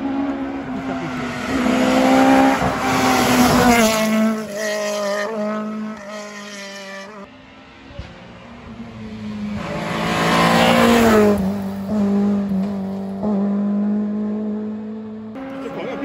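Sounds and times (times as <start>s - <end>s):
rally car passing at full throttle: 0.0s - 16.0s.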